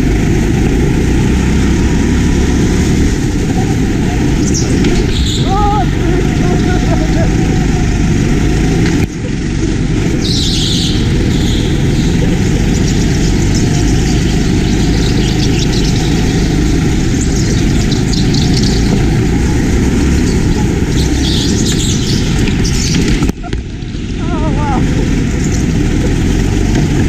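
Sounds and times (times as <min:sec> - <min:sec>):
go-kart engine drone: 0:00.0 - 0:27.0.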